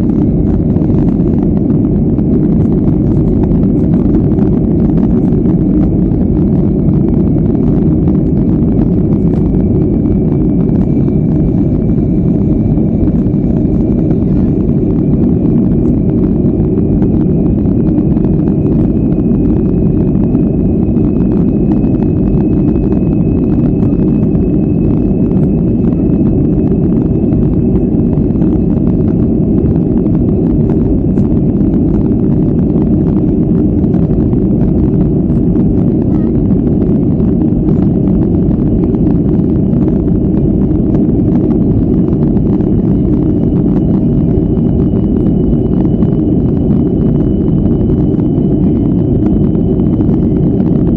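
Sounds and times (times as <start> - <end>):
high jet engine whine: 0.0 - 50.9
jet engines roaring at take-off: 0.0 - 50.9.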